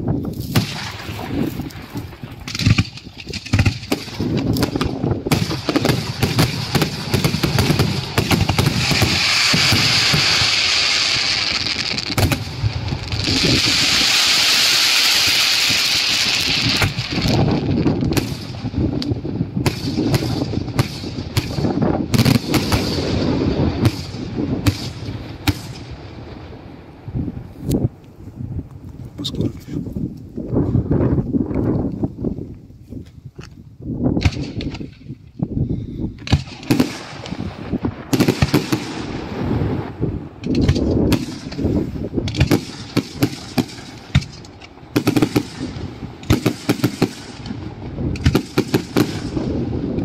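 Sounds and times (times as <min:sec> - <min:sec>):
fireworks bangs: 0:00.4 - 0:26.6, 0:36.2 - 0:50.0.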